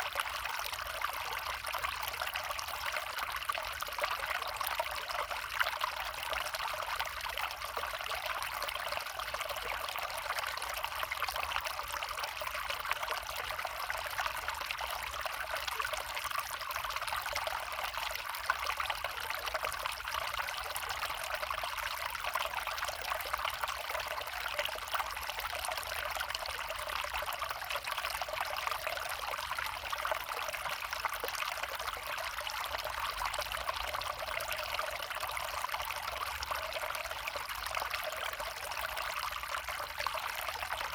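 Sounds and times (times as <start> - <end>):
creek trickling over stones: 0.0 - 40.9.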